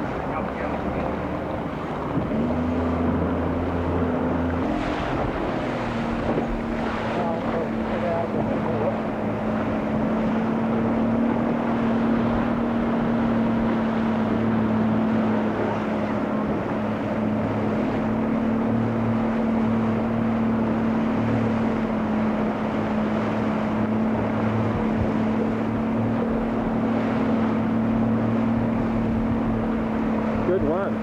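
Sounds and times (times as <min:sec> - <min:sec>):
boat motor running: 0:00.0 - 0:31.0
water noise: 0:00.0 - 0:31.0
wind: 0:00.0 - 0:31.0.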